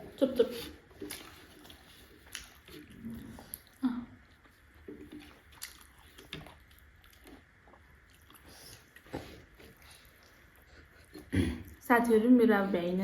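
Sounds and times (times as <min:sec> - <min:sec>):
person chewing: 0:00.4 - 0:11.8.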